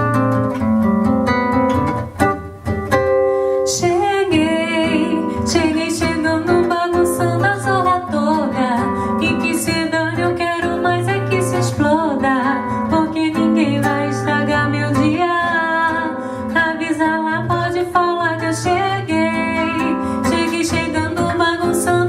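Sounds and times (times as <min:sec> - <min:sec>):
acoustic guitar playing: 0:00.0 - 0:22.0
person singing: 0:03.6 - 0:22.0.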